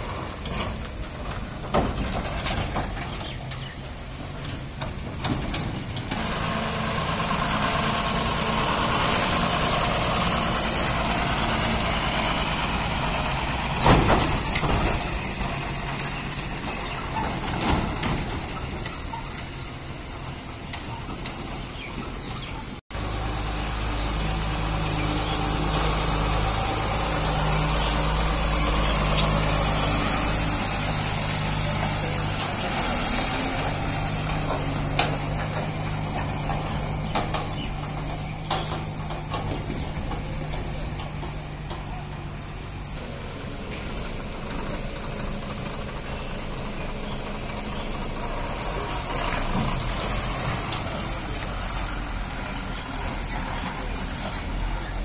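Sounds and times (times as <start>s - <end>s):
truck diesel engines passing: 0.0s - 55.0s.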